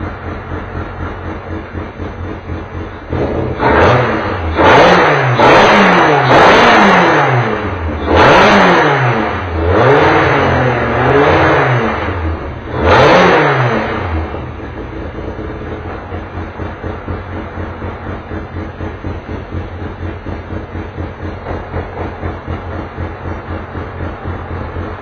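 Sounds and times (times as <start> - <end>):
engine idling unevenly: 0.0 - 5.4, 9.0 - 25.0
race car engine revving: 0.0 - 25.0.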